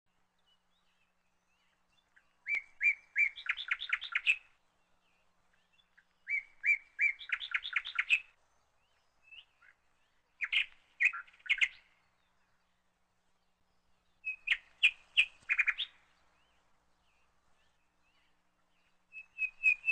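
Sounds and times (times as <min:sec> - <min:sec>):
songbird singing: 0:00.1 - 0:19.9.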